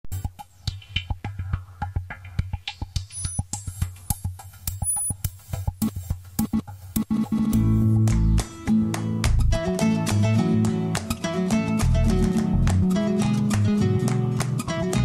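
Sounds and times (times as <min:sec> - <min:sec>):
fast percussive beat: 0:00.1 - 0:15.0.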